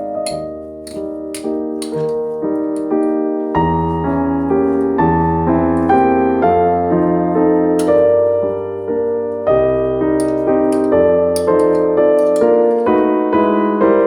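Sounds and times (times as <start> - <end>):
calm piano music: 0.0 - 14.0.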